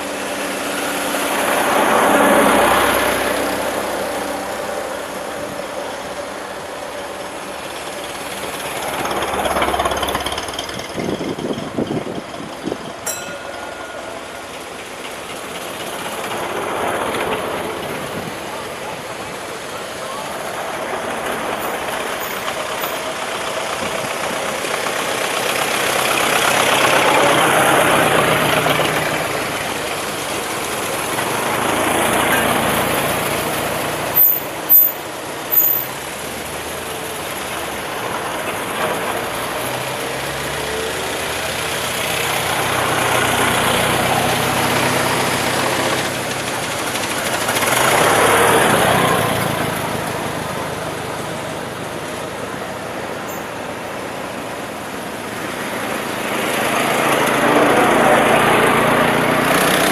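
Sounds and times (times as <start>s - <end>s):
cars driving past: 0.0s - 59.9s.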